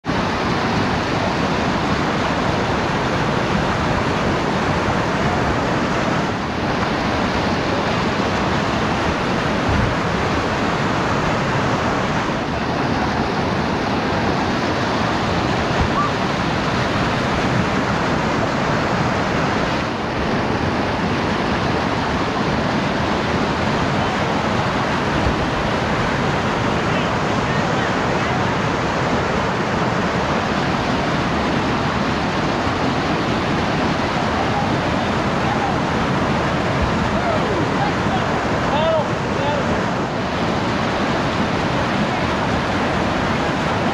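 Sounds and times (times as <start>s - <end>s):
whitewater rushing: 0.0s - 43.9s.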